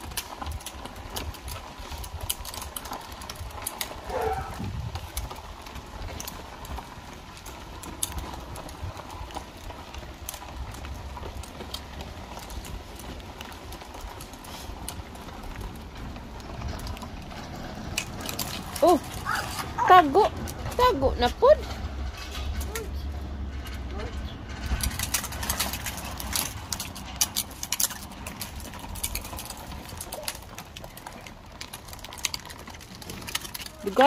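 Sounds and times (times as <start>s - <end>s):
small wheels rattling on paving: 0.0s - 34.0s
wind rumble on microphone: 0.0s - 34.0s.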